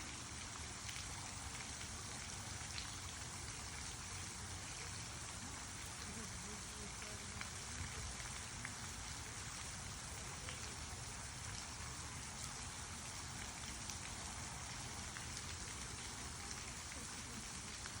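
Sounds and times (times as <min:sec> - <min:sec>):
small water splashes: 0:00.0 - 0:18.0.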